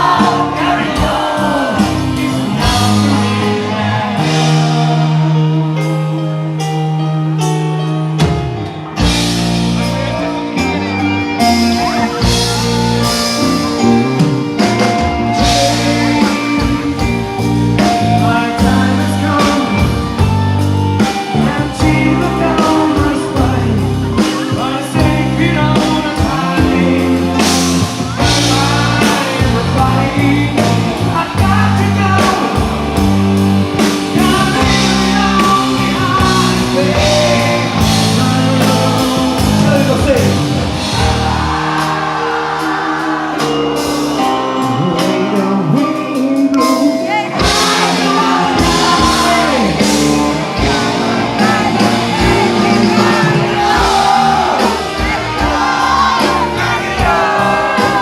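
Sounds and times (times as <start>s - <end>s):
person singing: 0.0s - 7.8s, 9.0s - 58.0s
rock band playing: 0.0s - 58.0s.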